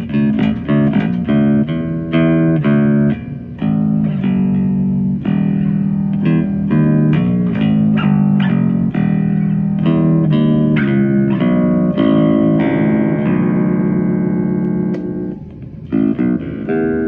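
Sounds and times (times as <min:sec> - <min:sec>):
electric bass plucked notes: 0:00.0 - 0:17.0.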